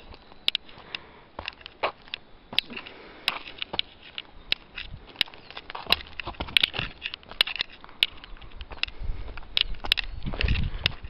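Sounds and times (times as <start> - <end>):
footsteps crunching on cinder: 0.0 - 11.0.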